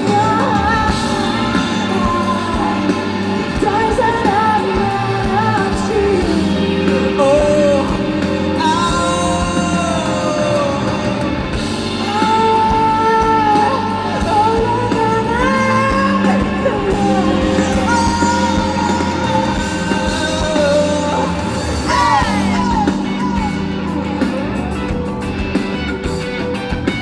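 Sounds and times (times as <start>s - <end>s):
person singing: 0.0s - 25.2s
live rock band playing: 0.0s - 27.0s.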